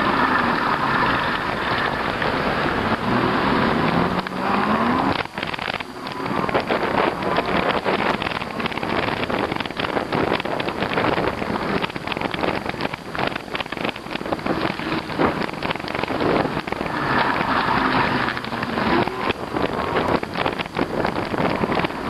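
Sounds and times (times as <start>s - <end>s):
tyres crackling over snow: 0.0s - 22.0s
wind buffeting microphone: 0.0s - 22.0s.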